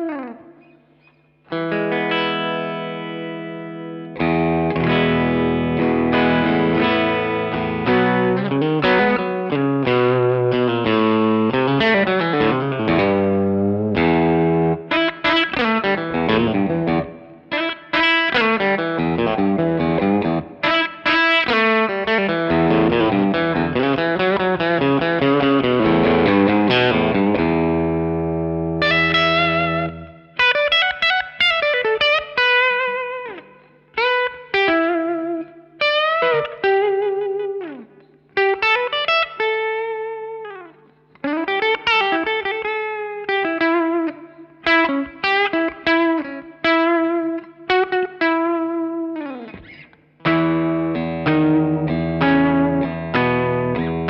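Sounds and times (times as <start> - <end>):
electric guitar with reverb: 0.0 - 54.0.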